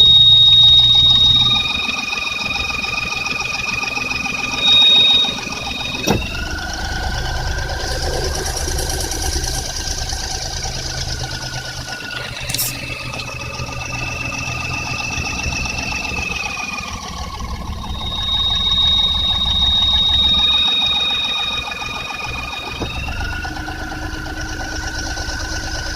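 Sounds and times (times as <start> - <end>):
engine idling: 0.0 - 25.9
high-pitched belt whine: 0.0 - 25.9.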